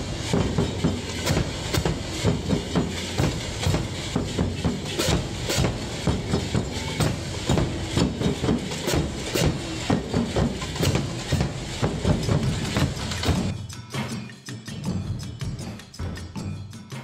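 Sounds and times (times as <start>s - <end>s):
bass drums beating: 0.0s - 14.1s.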